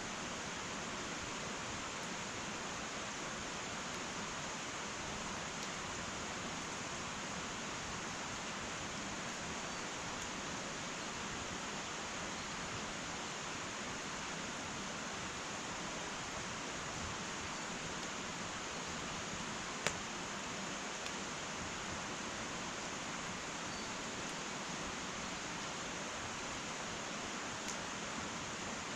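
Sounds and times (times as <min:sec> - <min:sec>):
faint fire crackles: 0:00.0 - 0:28.9
wood fire hissing: 0:00.0 - 0:28.9.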